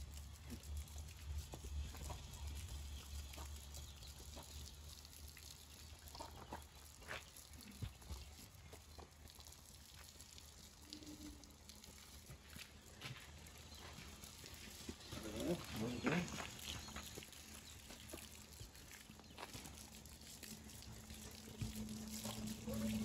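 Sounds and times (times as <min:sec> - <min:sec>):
water dripping: 0:00.0 - 0:23.0
water splashing from hose: 0:00.0 - 0:23.0.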